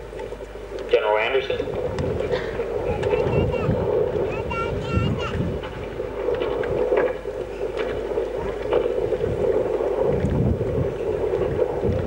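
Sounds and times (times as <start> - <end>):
steady droning hum: 0.0 - 12.0
wind buffeting microphone: 0.0 - 12.0.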